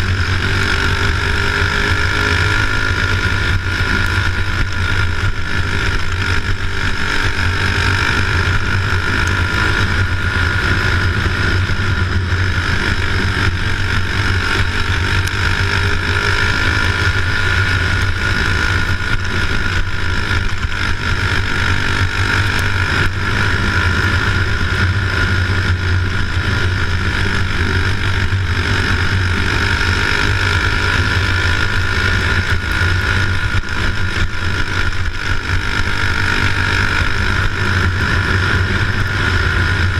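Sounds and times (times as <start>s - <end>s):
loud engine-like drone: 0.0s - 39.9s.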